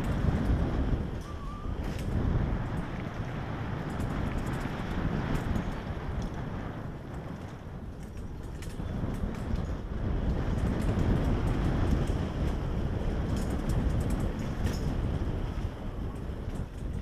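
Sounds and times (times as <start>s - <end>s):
bike clicks and rattles: 0.0s - 17.0s
tyres rumbling over trail: 0.0s - 17.0s
wind buffeting microphone: 0.0s - 17.0s.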